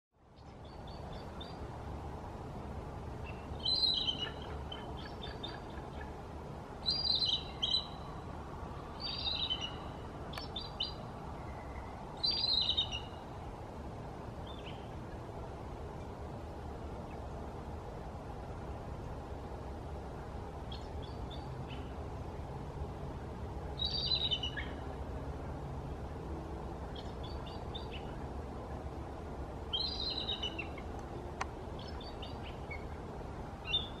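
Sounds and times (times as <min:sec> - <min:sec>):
low background noise: 0:00.1 - 0:34.0.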